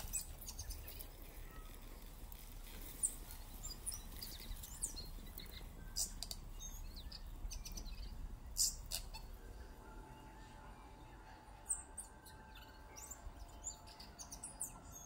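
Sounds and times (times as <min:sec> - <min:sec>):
low steady rumble: 0:00.0 - 0:15.0
small birds chirping and whistling: 0:00.0 - 0:15.0.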